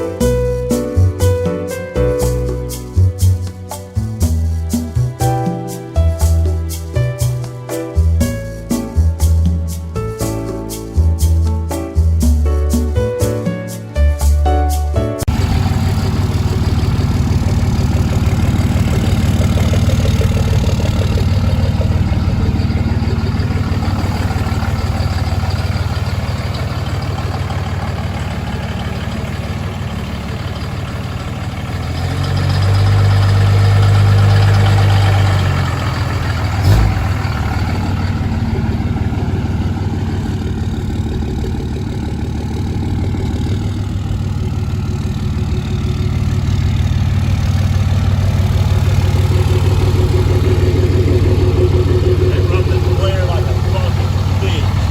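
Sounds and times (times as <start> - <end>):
diesel truck engine idling: 0.0 - 9.8, 15.2 - 54.9.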